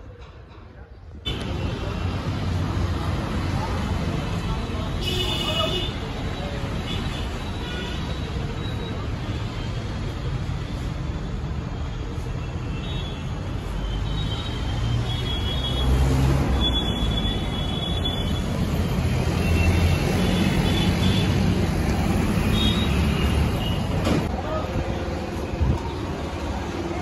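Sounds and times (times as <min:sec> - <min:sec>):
traffic engines rumbling: 0:00.0 - 0:27.0.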